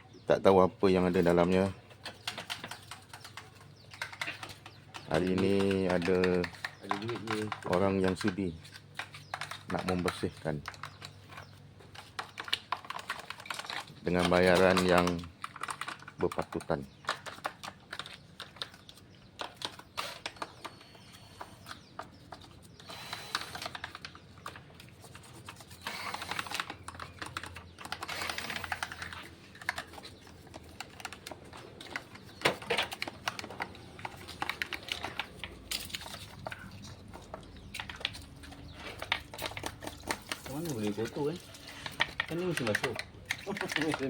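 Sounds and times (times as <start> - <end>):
tools clicking and knocking: 1.4 - 44.0.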